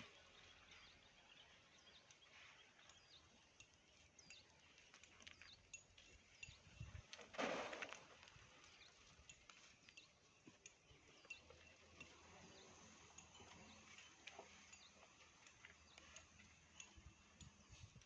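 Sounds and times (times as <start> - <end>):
faint outdoor ambience: 0.0 - 18.0.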